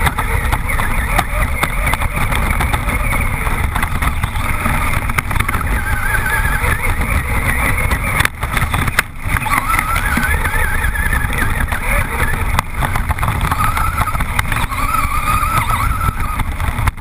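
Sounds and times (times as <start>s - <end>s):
high electric motor whine: 0.0s - 17.0s
wind and chassis rumble: 0.0s - 17.0s.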